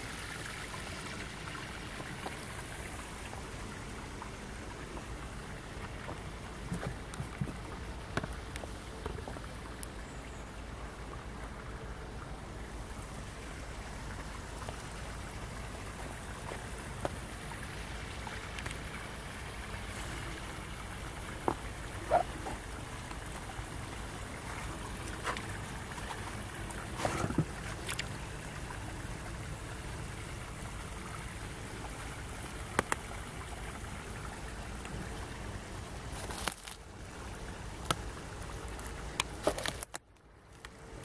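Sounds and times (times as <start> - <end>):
flowing river water: 0.0 - 41.0.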